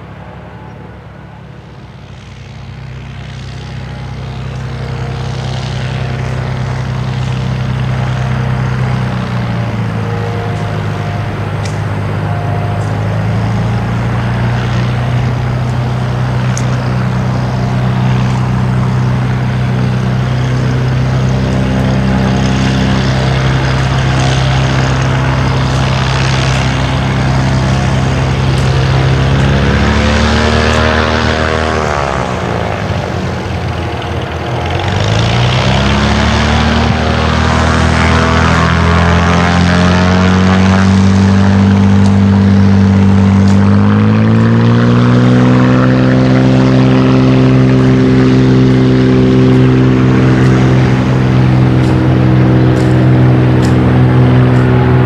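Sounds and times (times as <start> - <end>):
light aircraft propeller engine: 0.0 - 55.0.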